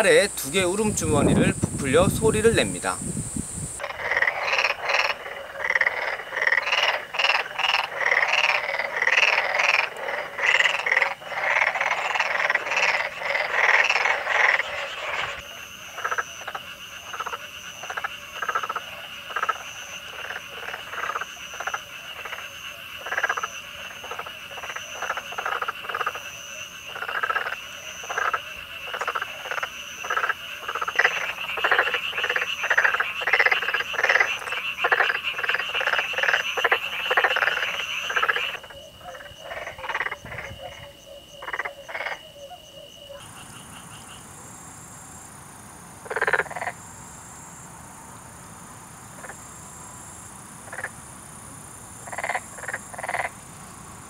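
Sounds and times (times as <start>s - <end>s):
frogs croaking: 0.0s - 54.0s.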